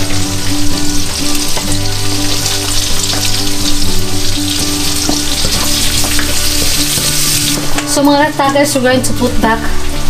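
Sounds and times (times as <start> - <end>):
onion and garlic sizzling in pan: 0.0 - 10.0.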